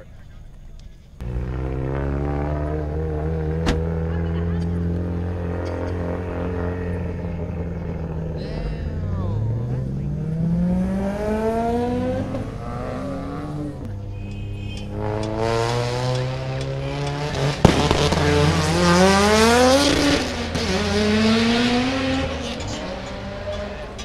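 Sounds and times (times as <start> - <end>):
car engine revving: 1.2 - 24.0.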